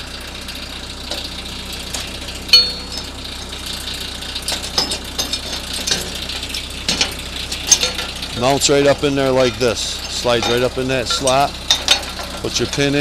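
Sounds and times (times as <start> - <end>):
tractor engine idling: 0.0 - 13.0
steel hitch clanking on metal: 0.4 - 13.0.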